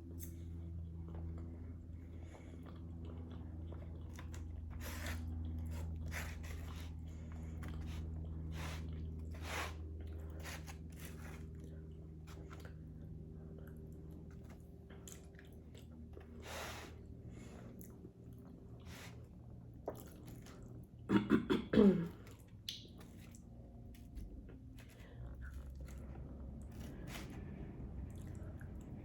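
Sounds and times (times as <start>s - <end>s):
person chewing food: 0.0s - 21.1s, 22.1s - 29.0s
steady low hum: 0.0s - 29.0s.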